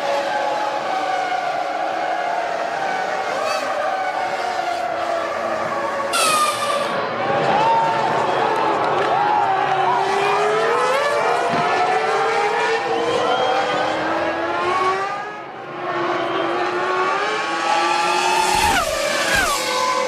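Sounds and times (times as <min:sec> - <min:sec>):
racing car engines revving: 0:00.0 - 0:20.0
racing car passing close: 0:00.2 - 0:20.0.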